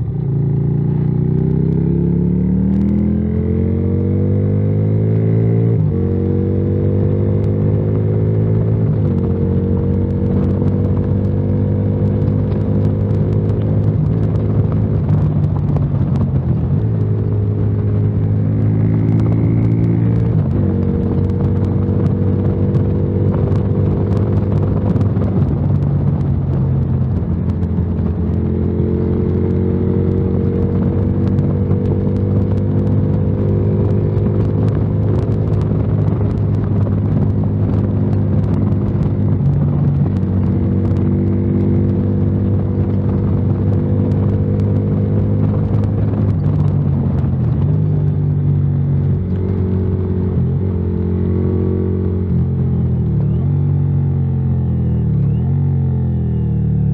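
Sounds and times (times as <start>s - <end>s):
motorcycle engine rumbling: 0.0s - 56.9s.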